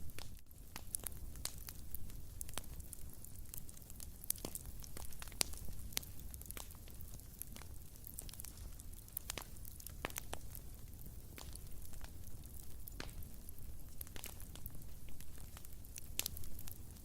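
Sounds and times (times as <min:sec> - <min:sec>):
wood fire crackling: 0:00.0 - 0:17.0
flames rumbling: 0:00.1 - 0:17.0.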